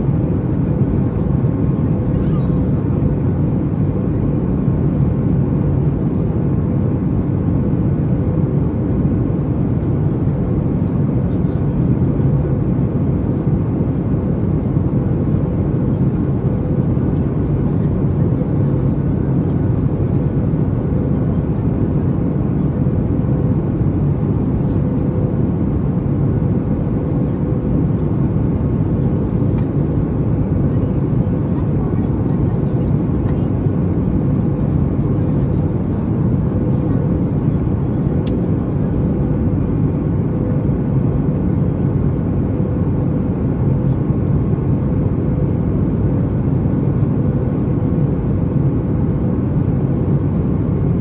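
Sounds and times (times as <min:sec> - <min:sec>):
aircraft cabin engine and airflow noise: 0:00.0 - 0:51.0.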